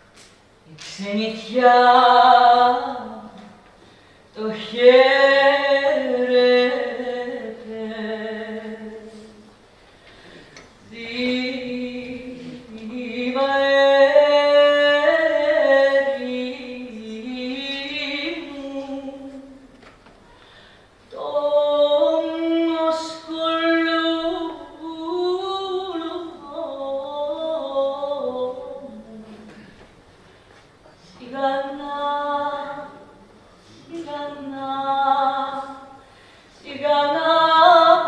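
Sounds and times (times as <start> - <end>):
woman singing unaccompanied: 0.7 - 3.6, 4.3 - 9.5, 10.8 - 19.7, 21.1 - 29.8, 31.0 - 36.0, 36.6 - 38.0.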